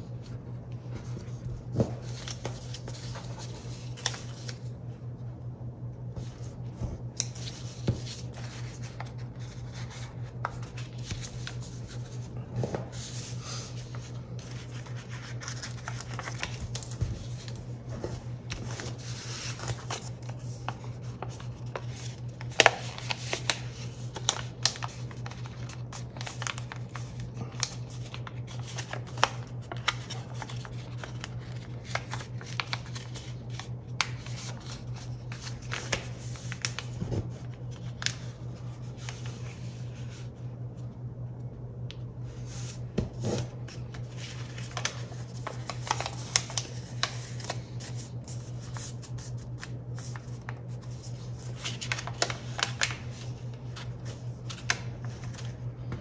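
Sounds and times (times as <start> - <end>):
paper being folded: 0.1 - 4.8, 6.1 - 40.4, 42.3 - 55.7.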